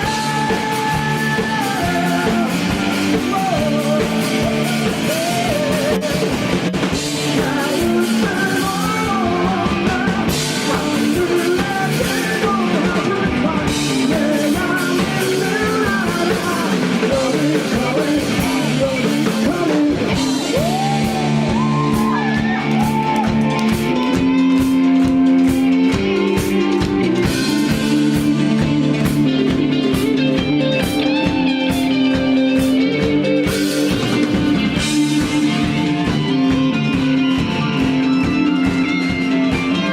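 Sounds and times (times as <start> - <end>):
distorted electric guitars: 0.0 - 39.9
drum kit: 0.0 - 39.9
person singing: 0.0 - 39.9.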